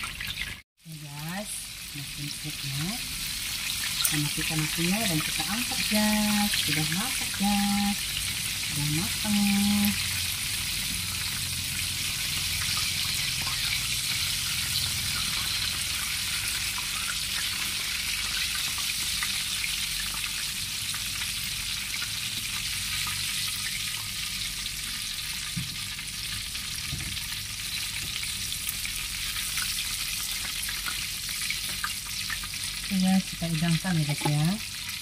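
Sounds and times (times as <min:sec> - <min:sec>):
hot oil sizzling in a wok: 0:00.0 - 0:35.0.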